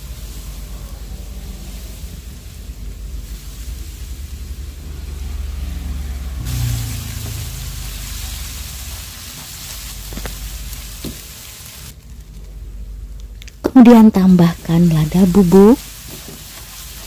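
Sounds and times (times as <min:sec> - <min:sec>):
paste sizzling in a wok: 0:00.0 - 0:12.0, 0:14.1 - 0:17.0.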